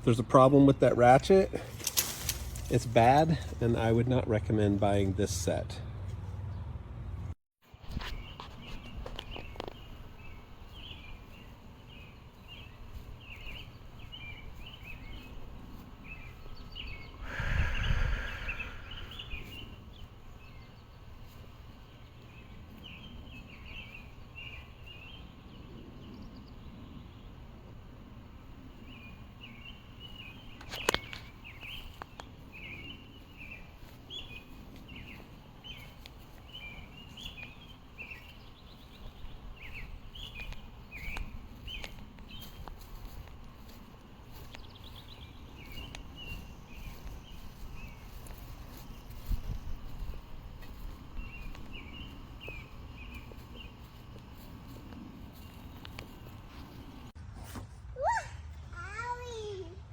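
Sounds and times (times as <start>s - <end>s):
low outdoor background hum: 0.0s - 59.9s
small birds chirping: 7.6s - 57.2s.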